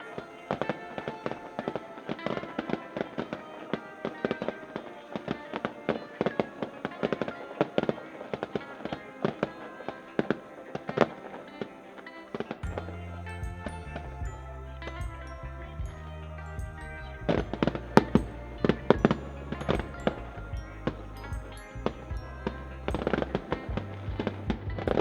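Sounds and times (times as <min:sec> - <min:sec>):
fireworks crackling: 0:00.0 - 0:25.0
steady-toned music: 0:00.0 - 0:25.0.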